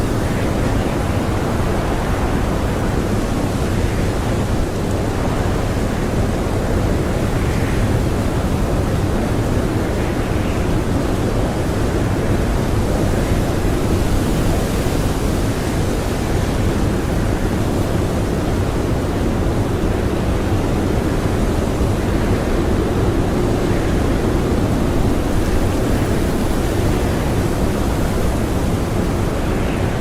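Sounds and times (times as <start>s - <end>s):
strong blizzard wind: 0.0s - 30.0s.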